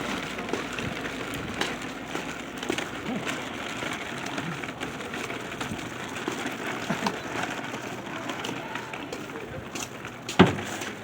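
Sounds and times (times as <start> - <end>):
faint voices: 0.0 - 11.0
outdoor street noise: 0.0 - 11.0.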